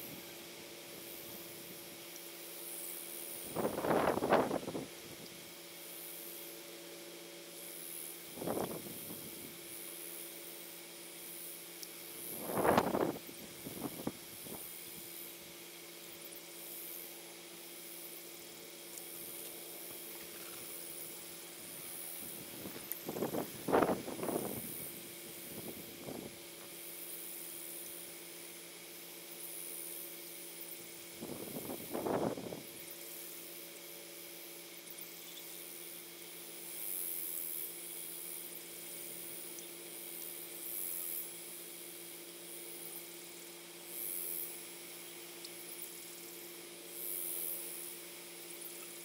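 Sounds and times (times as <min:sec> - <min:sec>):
outdoor background hiss: 0:00.0 - 0:49.0.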